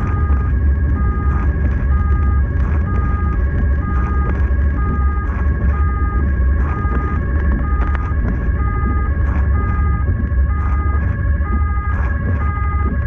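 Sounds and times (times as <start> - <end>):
engine and road rumble: 0.0 - 13.0
two-tone siren: 0.0 - 13.0.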